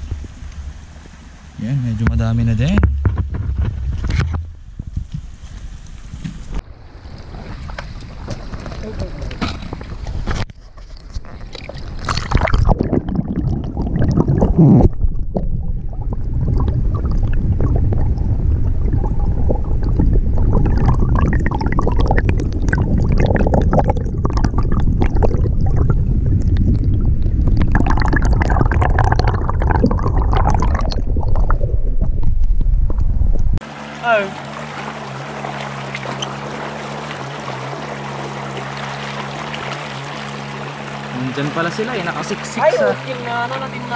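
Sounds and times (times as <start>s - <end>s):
water splashes: 0.0s - 43.9s
creek water gurgling underwater: 6.4s - 43.9s.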